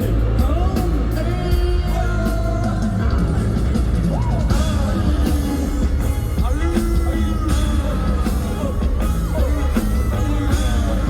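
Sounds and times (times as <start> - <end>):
amplified music with heavy bass: 0.0 - 11.0
male group singing: 0.0 - 11.0
steady drum beat: 0.0 - 11.0.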